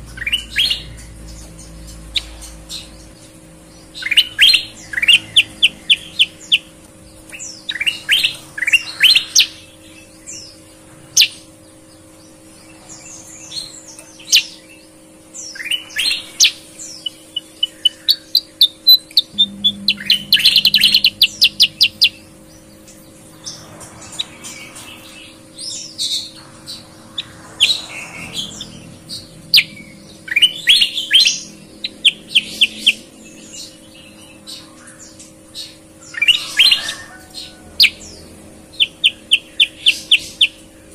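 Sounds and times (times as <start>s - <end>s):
birds singing: 0.0s - 40.9s
faint steady hum: 0.0s - 40.9s.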